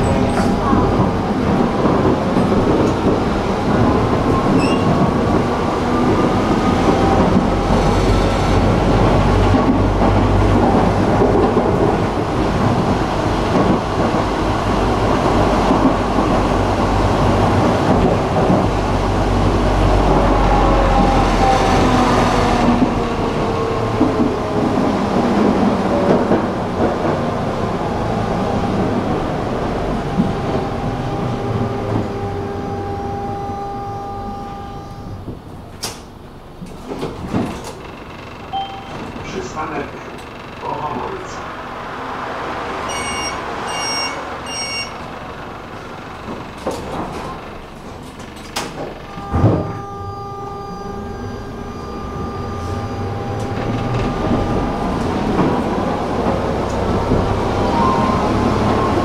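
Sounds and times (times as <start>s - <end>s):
tram wheels rumbling on rails: 0.0s - 59.0s.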